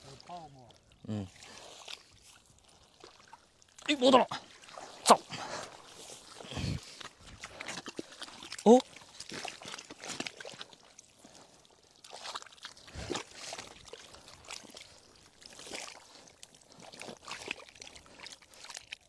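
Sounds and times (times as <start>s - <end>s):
mud squelching and water sloshing: 0.0s - 19.0s.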